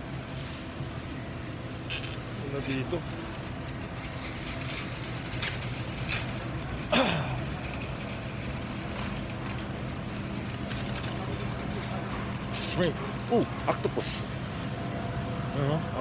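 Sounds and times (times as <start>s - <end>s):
refrigerator hum: 0.0s - 16.0s.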